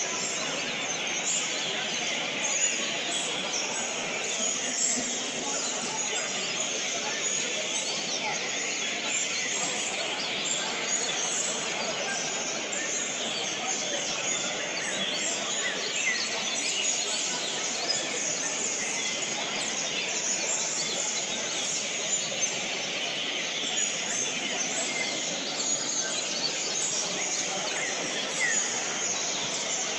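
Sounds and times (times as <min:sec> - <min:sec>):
birds singing chorus: 0:00.0 - 0:29.9
murmur of voices: 0:00.0 - 0:29.9.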